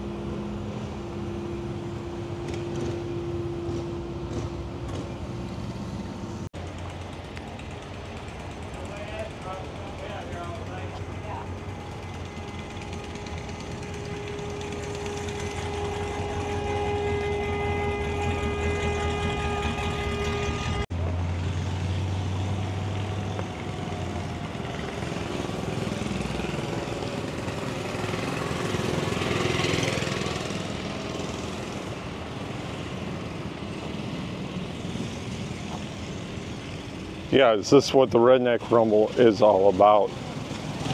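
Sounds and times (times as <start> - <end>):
engine hum: 0.0 - 40.9
vehicle passing by: 0.0 - 40.9.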